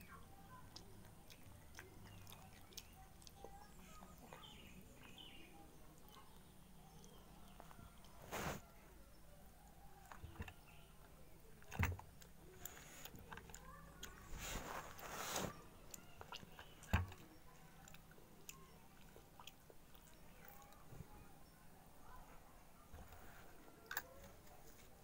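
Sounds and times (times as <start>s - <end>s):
child chewing food: 0.0s - 22.2s, 22.8s - 25.0s.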